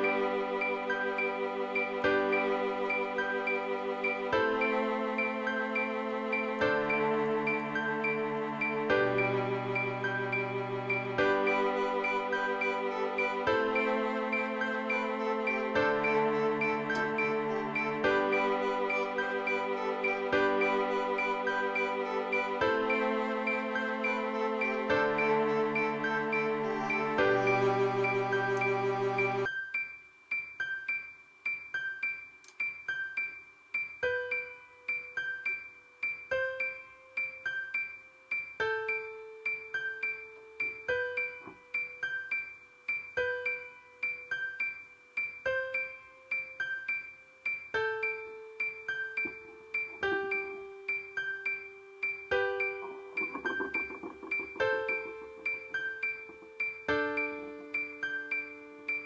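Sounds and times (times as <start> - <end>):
piano tune: 0.0 - 29.5, 31.7 - 59.0.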